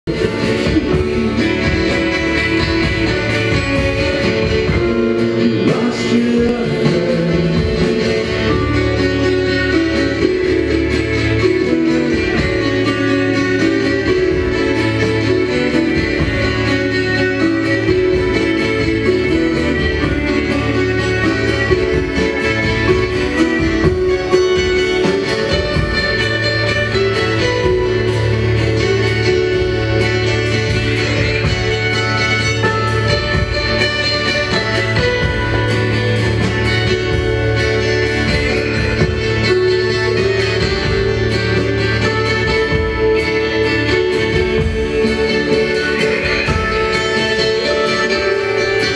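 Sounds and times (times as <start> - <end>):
live band with guitar: 0.0 - 48.9.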